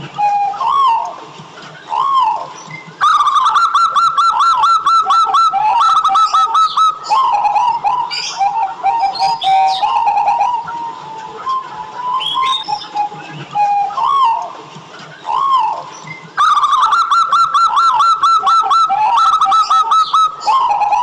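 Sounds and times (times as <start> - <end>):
dove cooing: 0.0 - 1.1, 1.8 - 14.6, 15.2 - 21.0
small birds chirping: 1.8 - 21.0.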